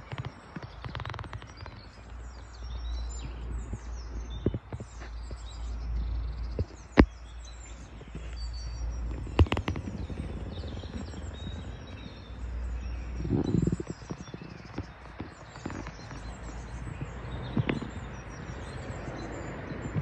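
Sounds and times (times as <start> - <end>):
faint bird chirps: 0.0 - 20.0
steady low rumble: 1.5 - 20.0.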